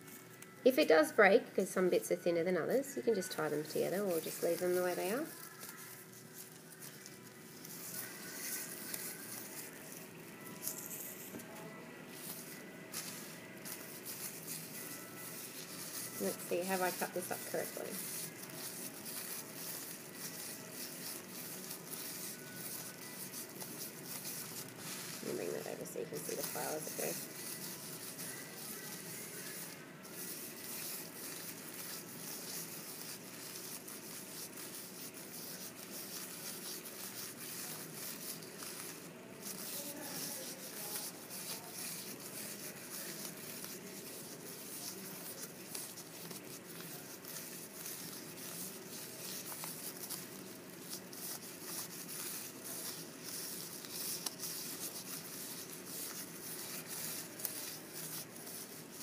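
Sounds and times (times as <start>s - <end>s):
plastic bag crinkling and rustling: 2.9s - 59.0s.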